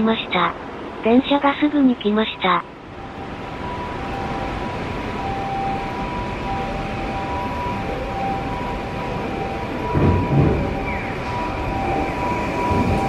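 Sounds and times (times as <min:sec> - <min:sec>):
electric train rumbling: 0:00.0 - 0:13.0
faint whining tones: 0:00.6 - 0:13.0.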